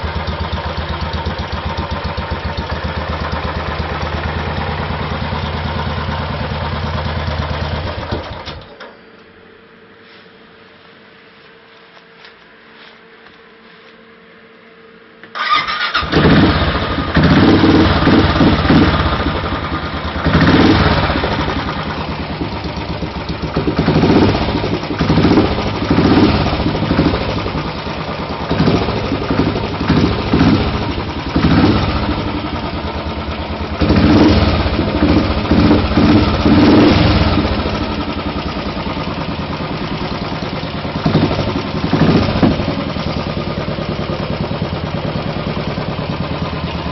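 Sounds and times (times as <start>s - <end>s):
motorcycle engine starting: 0.0s - 8.9s, 15.2s - 46.9s.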